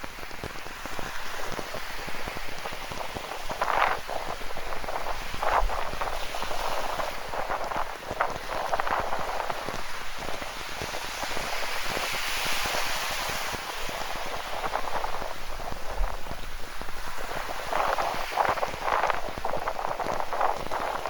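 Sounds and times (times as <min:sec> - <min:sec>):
ocean surf washing in: 0:00.0 - 0:21.0
rain pattering: 0:00.0 - 0:21.0.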